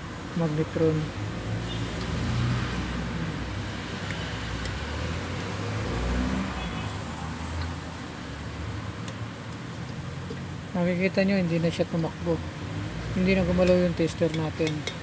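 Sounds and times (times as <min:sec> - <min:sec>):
rumble of passing road vehicles: 0:00.0 - 0:15.0.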